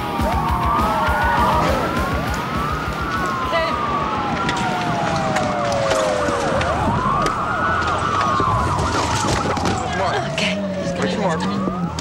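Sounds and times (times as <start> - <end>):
police siren wailing: 0.0 - 12.0
fast warbling siren tone: 0.1 - 12.0.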